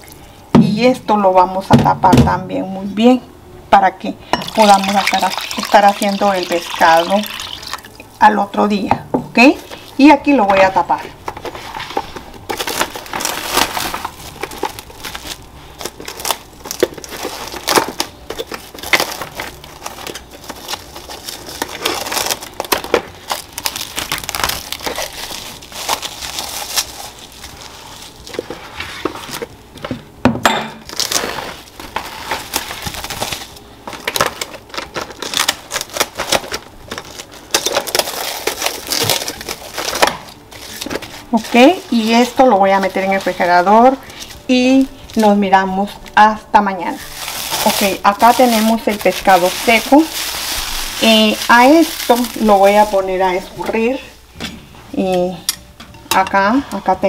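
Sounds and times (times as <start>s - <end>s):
plastic wrap crinkling: 4.5s - 8.1s, 9.4s - 29.6s, 30.8s - 54.2s.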